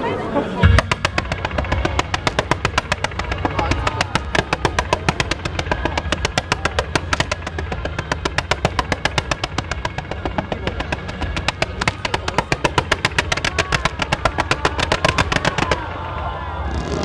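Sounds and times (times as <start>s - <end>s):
firecrackers banging: 0.6s - 17.0s.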